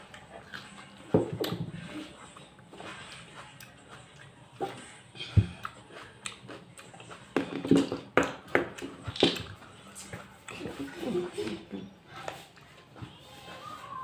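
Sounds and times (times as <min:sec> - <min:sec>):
person chewing tomato: 0:00.0 - 0:12.8.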